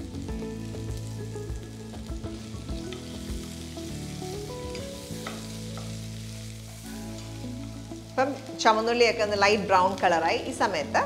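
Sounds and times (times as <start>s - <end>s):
shallots sizzling in oil: 0.0s - 11.0s.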